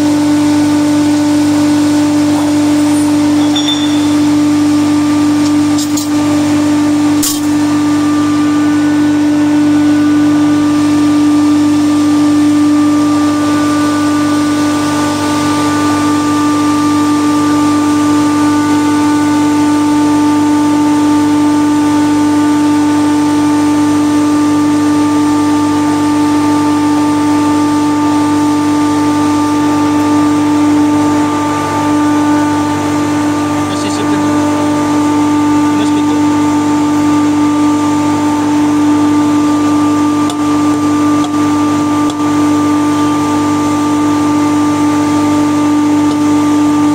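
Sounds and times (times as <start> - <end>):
machinery drone with hum and hiss: 0.0 - 46.9.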